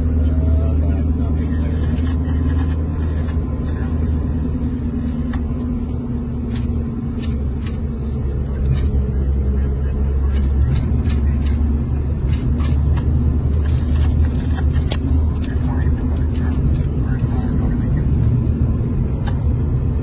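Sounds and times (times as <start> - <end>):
deep car rumble: 0.0 - 20.0.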